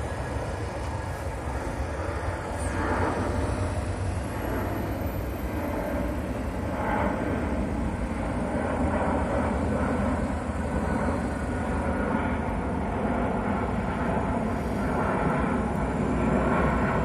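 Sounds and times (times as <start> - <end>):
road traffic: 0.0 - 11.7, 13.6 - 14.9, 15.5 - 16.2
jet engines rumbling overhead: 0.0 - 17.0.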